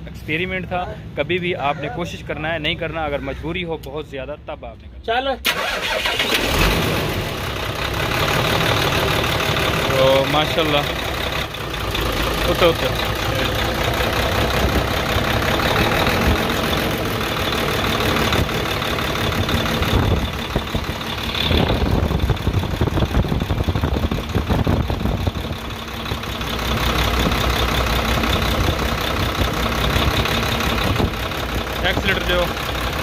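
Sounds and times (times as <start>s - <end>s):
diesel truck engine idling: 5.5s - 33.0s.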